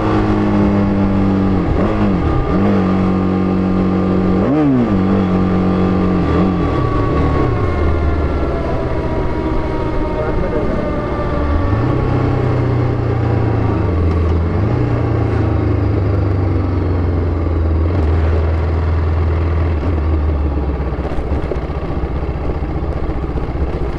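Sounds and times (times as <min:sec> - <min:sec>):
motorcycle engine running: 0:00.0 - 0:23.9
wind and road noise: 0:00.0 - 0:23.9.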